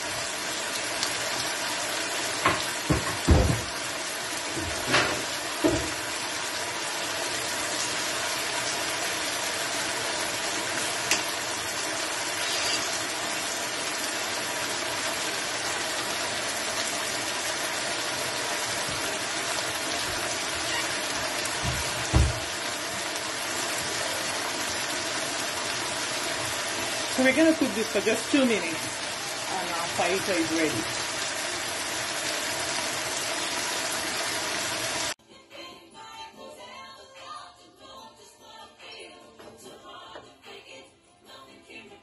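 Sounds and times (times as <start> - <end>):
food sizzling in a frying pan: 0.0 - 35.2.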